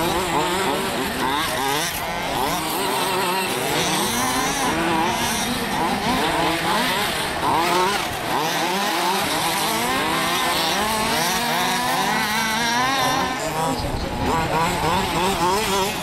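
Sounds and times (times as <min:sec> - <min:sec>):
rc car engines buzzing and revving: 0:00.0 - 0:16.0.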